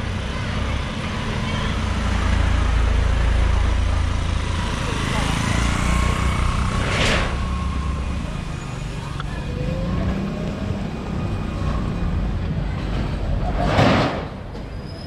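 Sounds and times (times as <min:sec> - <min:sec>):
rumble of traffic and scooters: 0:00.0 - 0:15.0.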